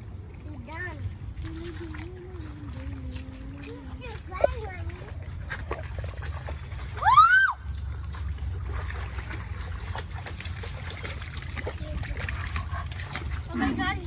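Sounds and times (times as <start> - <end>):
creek water trickling: 0.0 - 14.0
stick slapping water: 1.0 - 13.8.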